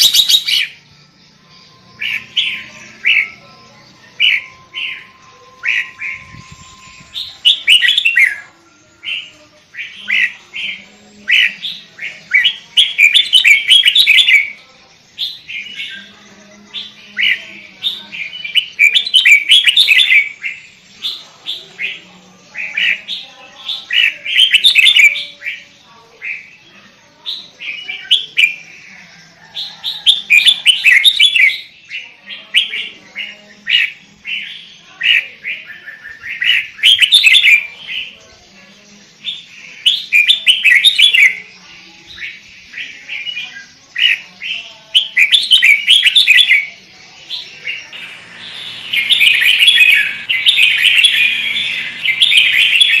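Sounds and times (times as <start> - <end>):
bulbul chirping song: 0.0 - 53.0.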